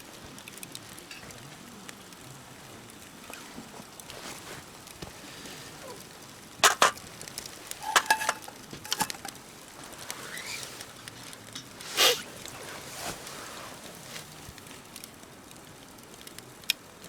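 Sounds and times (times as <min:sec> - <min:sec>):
campfire hissing: 0:00.0 - 0:17.0
fire crackling pops: 0:00.2 - 0:17.0.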